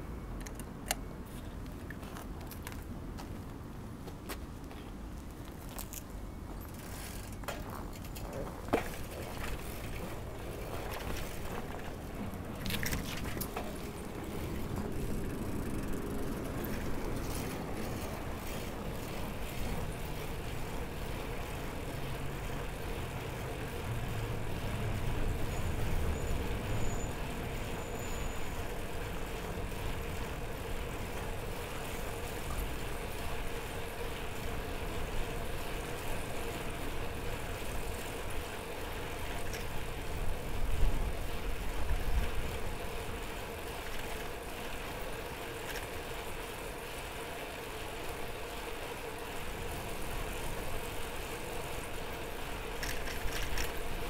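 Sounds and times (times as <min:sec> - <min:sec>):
motor vehicles engine rumble: 0:00.0 - 0:45.0.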